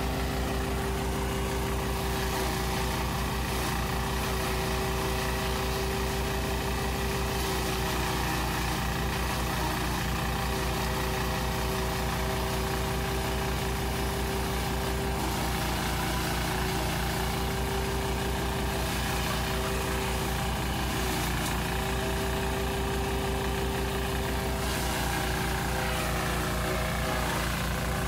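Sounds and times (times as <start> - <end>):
chopper chopping corn stalks: 0.0 - 28.0
small engine running: 0.0 - 28.0.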